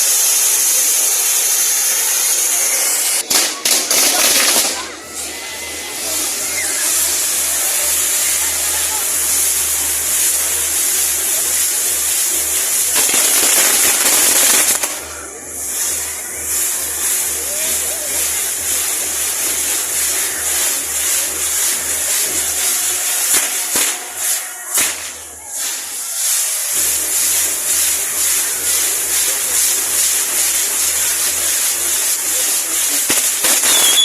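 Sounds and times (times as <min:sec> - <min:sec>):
firework sharp cracks: 0:00.0 - 0:34.0
fireworks hissing and crackling: 0:00.0 - 0:34.0.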